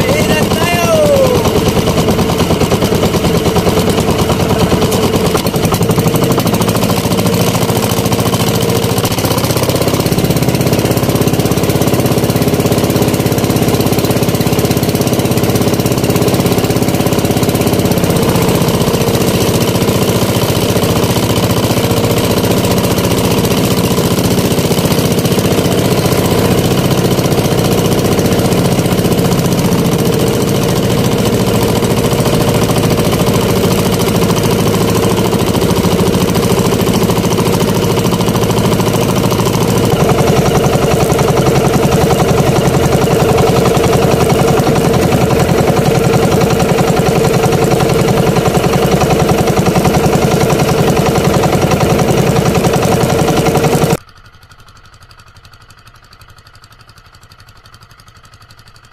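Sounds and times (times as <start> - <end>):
small boat engine running: 0.0 - 58.9.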